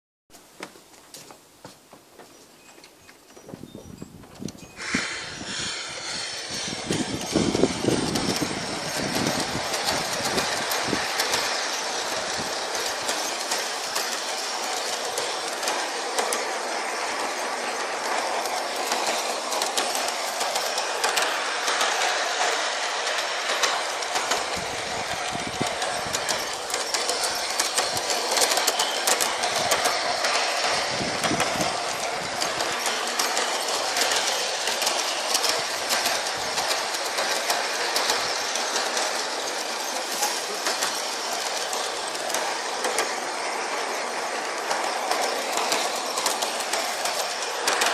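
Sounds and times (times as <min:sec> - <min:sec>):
model train wheels clattering: 0:00.4 - 0:47.9
wheels clicking over rail: 0:04.2 - 0:47.9.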